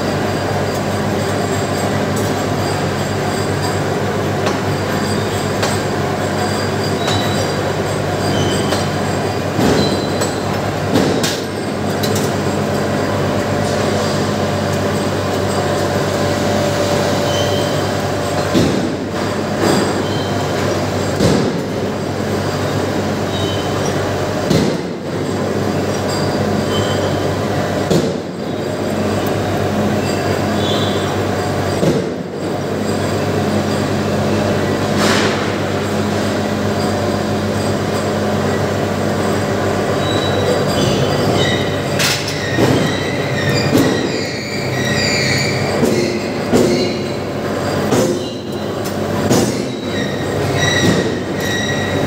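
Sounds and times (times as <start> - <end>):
forging machine hum: 0.0 - 52.0.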